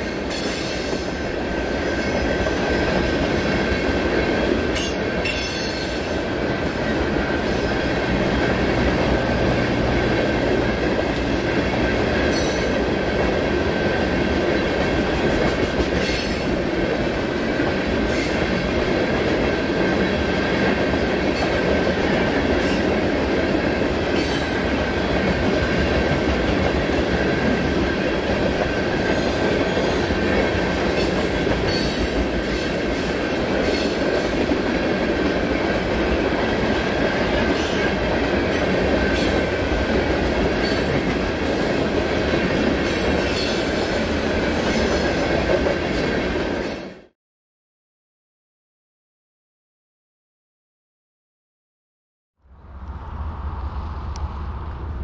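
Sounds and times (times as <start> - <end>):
train wheels rumbling on rail: 0.0 - 47.1, 52.4 - 55.0.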